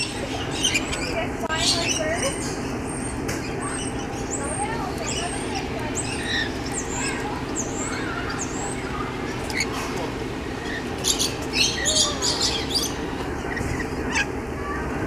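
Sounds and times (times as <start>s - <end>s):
birds chirping: 0.0s - 15.0s
birds screeching: 0.0s - 15.0s.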